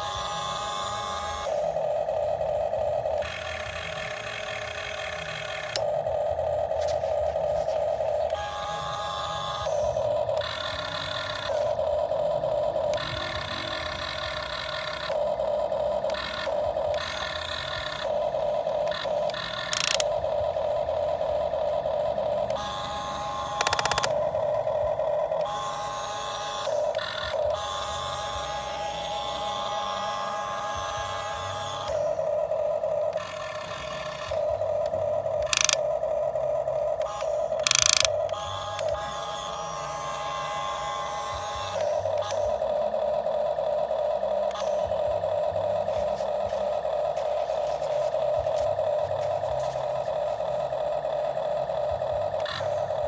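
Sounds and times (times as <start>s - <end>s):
electric motors whining: 0.0s - 53.0s.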